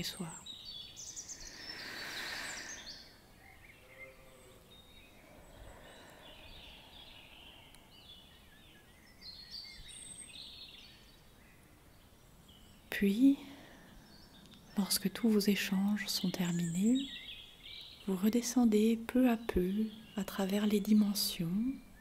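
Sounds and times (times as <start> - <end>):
birds chirping and warbling: 0.0 - 22.0.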